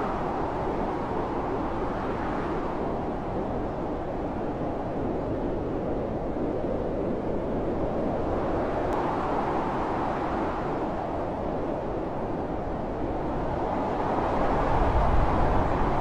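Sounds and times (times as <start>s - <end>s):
blizzard wind gusts: 0.0s - 16.0s.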